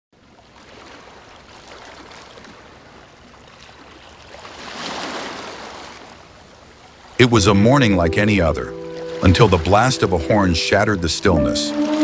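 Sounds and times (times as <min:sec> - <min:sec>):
water washing and lapping: 0:00.2 - 0:12.0.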